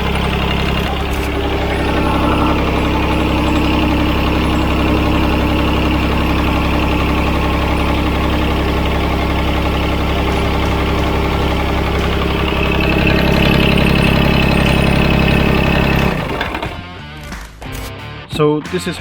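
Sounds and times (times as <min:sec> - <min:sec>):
tractor diesel engine idling: 0:00.0 - 0:16.8.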